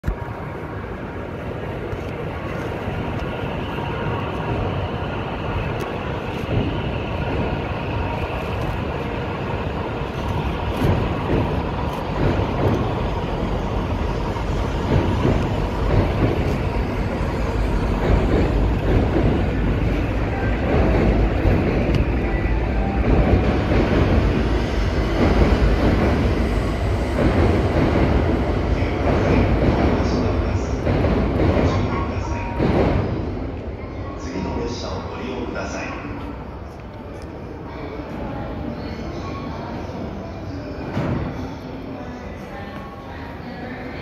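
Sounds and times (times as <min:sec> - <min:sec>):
low rumble of trains: 0:00.0 - 0:44.0.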